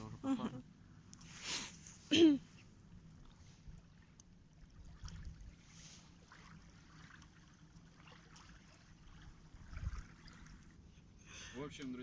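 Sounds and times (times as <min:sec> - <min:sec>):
faint water lapping: 0:00.0 - 0:12.0.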